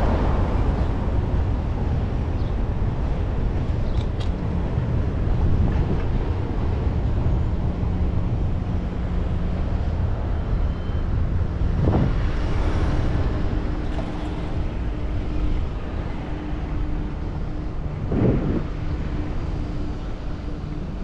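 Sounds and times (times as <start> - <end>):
steady low hum: 0.0 - 21.0
wind and road rumble: 0.0 - 21.0.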